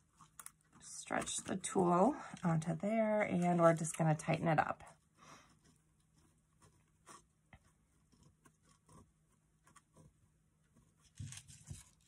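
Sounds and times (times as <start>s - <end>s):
thumbscrew ticks and rustles: 0.0s - 10.2s.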